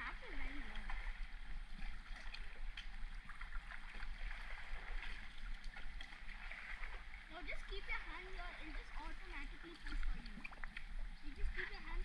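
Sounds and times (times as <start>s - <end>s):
river water rushing and gurgling: 0.0s - 12.0s
small splashes and ticks: 0.0s - 12.0s.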